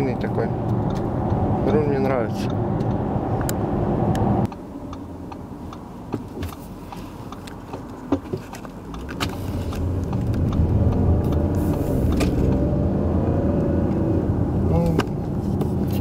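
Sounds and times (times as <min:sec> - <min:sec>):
car running and road noise: 0:00.0 - 0:16.0.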